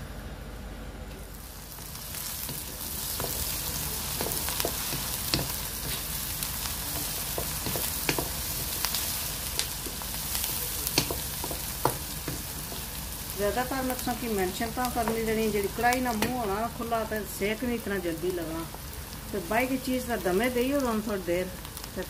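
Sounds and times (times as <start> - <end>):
onions sizzling in hot oil: 1.3 - 22.0.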